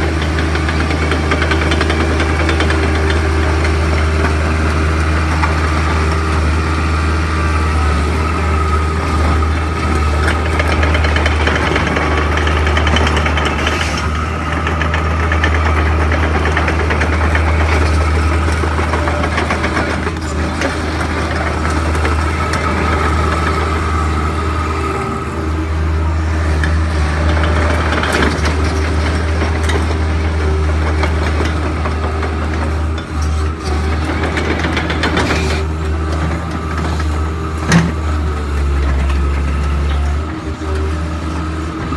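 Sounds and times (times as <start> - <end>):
excavator diesel engine drone: 0.0 - 41.9.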